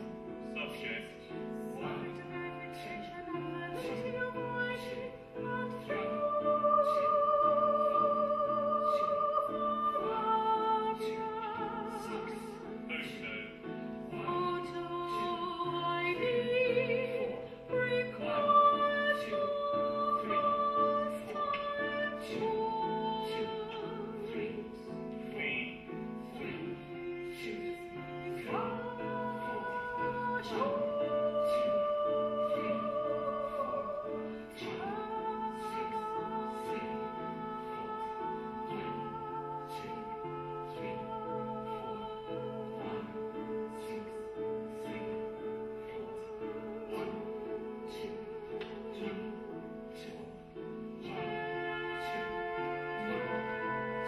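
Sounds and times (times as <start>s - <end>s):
instrumental accompaniment: 0.0s - 54.0s
female operatic soprano singing: 1.4s - 12.9s, 13.9s - 25.2s, 25.9s - 54.0s.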